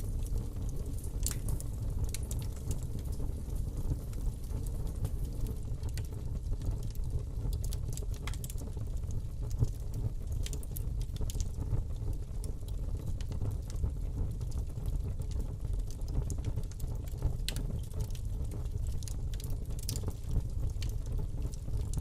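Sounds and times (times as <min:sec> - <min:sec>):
fire crackles and pops: 0:00.0 - 0:22.0
fire rumbling in fireplace: 0:00.0 - 0:22.0.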